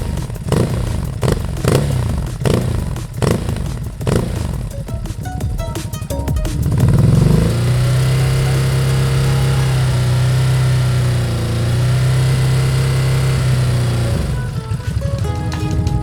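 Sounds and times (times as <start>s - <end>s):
motorcycle engine at steady speed: 0.0s - 5.2s, 6.5s - 16.0s.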